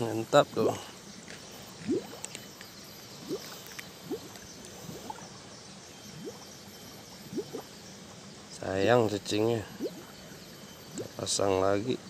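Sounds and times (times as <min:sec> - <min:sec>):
water flowing in a channel: 0:00.5 - 0:12.0.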